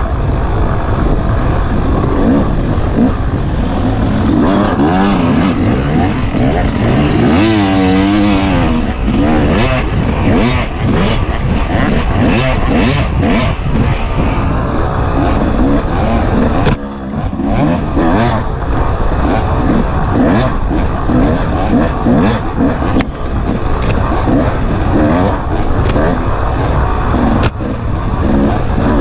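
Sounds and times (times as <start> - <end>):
dirt bike engine revving: 0.0 - 29.0
rushing wind: 0.0 - 29.0.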